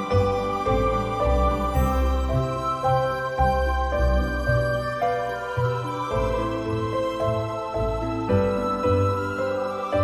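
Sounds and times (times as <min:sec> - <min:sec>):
slow gentle instrumental music: 0:00.0 - 0:10.0.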